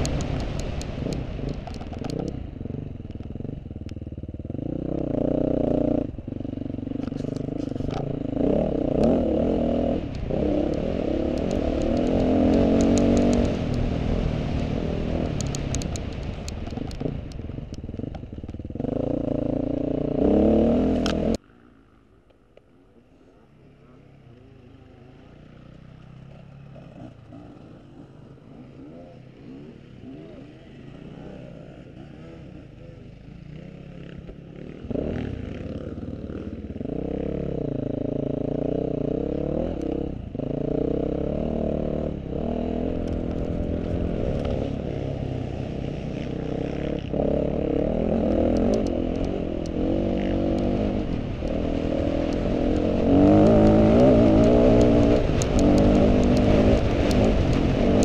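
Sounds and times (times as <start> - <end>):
motorcycle engine revving: 0.0 - 22.1, 22.7 - 58.0.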